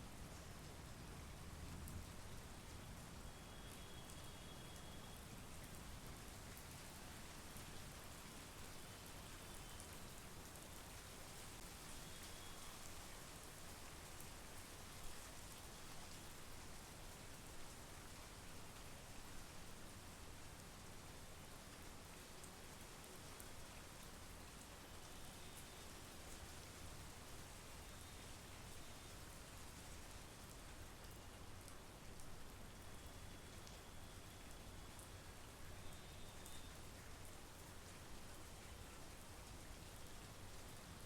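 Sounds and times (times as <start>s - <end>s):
soft rain hissing: 0.0s - 41.0s
raindrops ticking close by: 0.1s - 41.0s.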